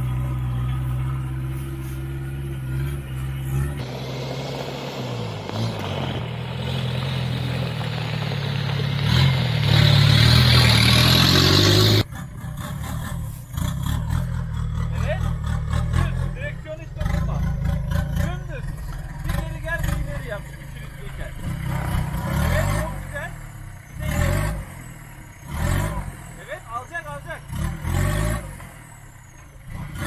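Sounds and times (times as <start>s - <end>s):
truck engine off-road: 0.0s - 30.0s.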